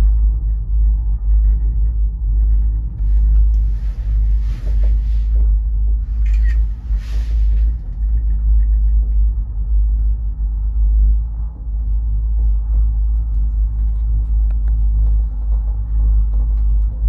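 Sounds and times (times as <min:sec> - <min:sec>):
gondola cabin rumble: 0:00.0 - 0:17.0.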